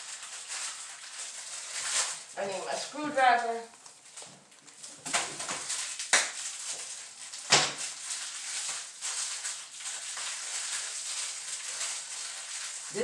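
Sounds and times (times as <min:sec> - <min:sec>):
rustling and handling noise: 0:00.0 - 0:13.0.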